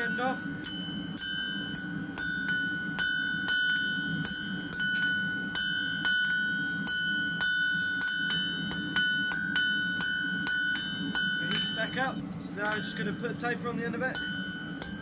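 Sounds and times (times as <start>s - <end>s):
hammer striking metal on anvil: 0.0s - 13.4s, 14.0s - 15.0s
anvil ringing: 0.0s - 15.0s.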